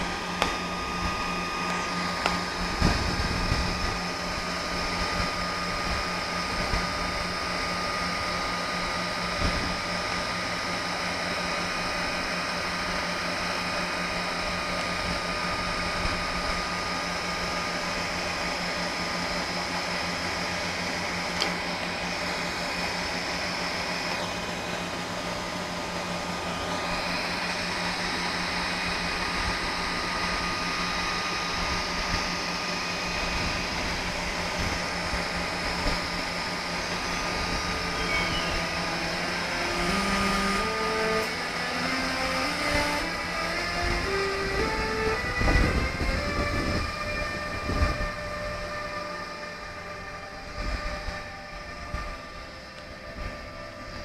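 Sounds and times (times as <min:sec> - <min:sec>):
high whine gliding upward: 0:00.0 - 0:54.0
locomotive blowers whirring hum: 0:00.0 - 0:54.0.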